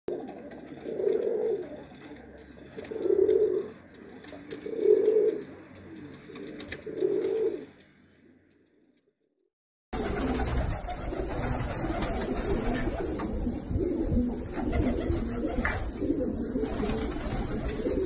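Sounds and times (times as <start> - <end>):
pigeons cooing: 0.1 - 8.4, 10.0 - 18.0.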